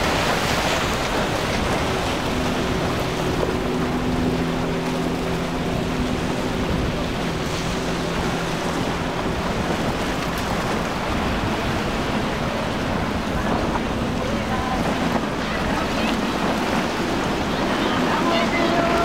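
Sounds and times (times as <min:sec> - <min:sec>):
outboard motors droning: 0:00.0 - 0:19.0
waves and surf: 0:00.0 - 0:19.0
wind buffeting microphone: 0:00.0 - 0:19.0.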